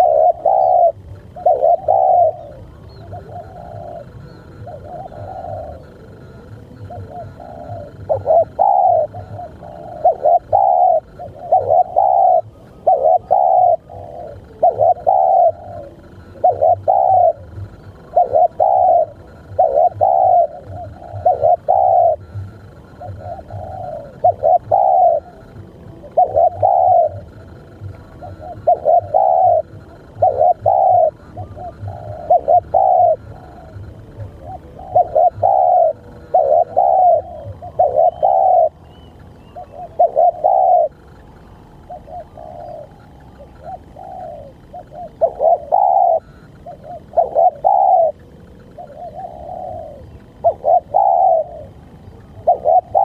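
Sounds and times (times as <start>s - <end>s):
dove cooing: 0.0s - 53.0s.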